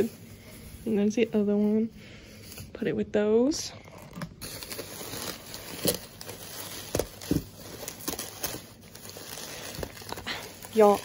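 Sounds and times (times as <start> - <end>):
bubble wrap and bags rustling: 0.0 - 11.0.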